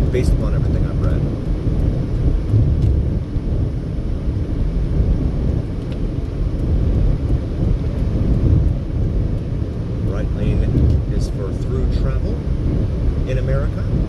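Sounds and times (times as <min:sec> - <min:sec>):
car engine running: 0:00.0 - 0:14.0
tyres rumbling on road: 0:00.0 - 0:14.0.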